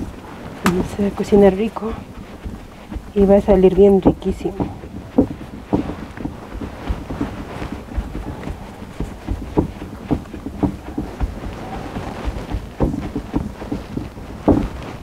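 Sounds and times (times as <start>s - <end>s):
hands patting dough on wood: 0.0s - 15.0s
wind rumble on microphone: 0.0s - 15.0s.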